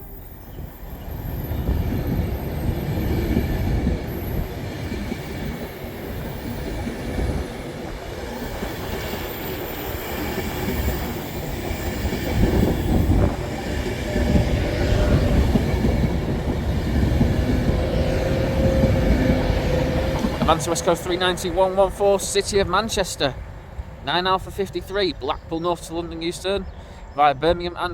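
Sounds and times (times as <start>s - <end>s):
train rumbling on rails: 0.0s - 27.9s.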